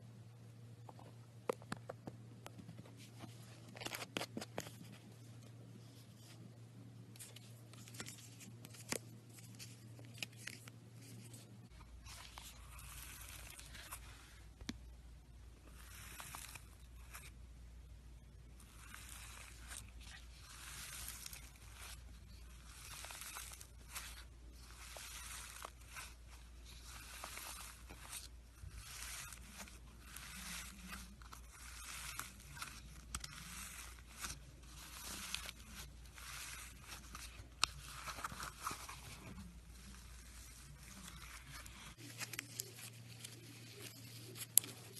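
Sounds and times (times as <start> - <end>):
slime crackling and rustling: 7.2 - 14.6, 15.5 - 17.5, 18.2 - 44.9.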